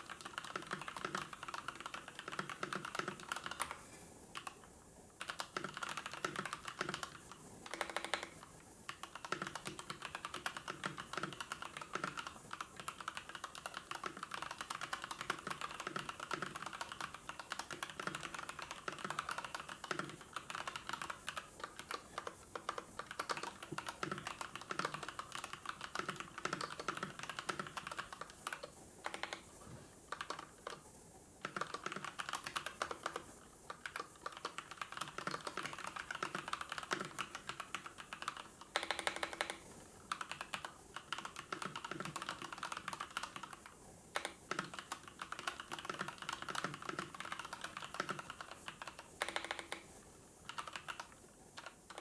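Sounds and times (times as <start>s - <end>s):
keyboard typing: 0.0s - 3.8s, 4.4s - 52.0s.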